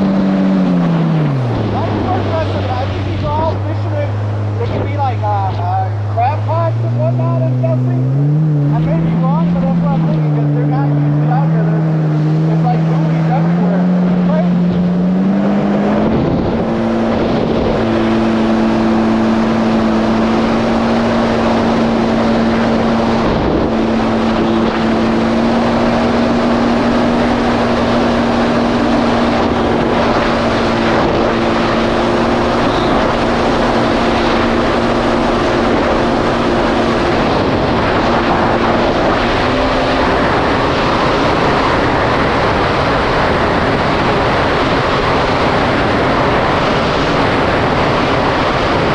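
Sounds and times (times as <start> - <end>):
jet ski engine: 0.0 - 48.9
water rushing: 0.0 - 48.9
wind rushing: 0.0 - 48.9.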